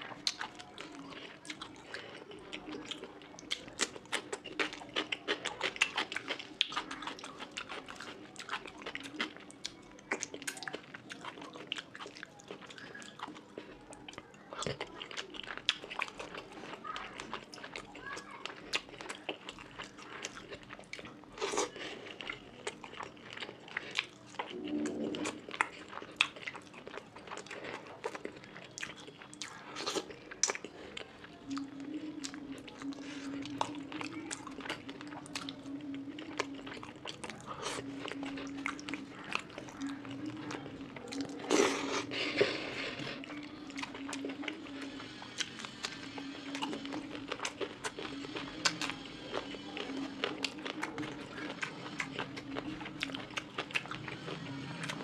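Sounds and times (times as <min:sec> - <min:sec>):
chewing and lip-smacking: 0:00.0 - 0:55.0.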